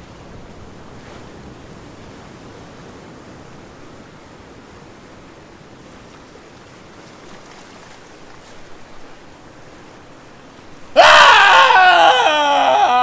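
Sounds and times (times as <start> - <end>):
waves washing on shore: 0.0 - 13.0.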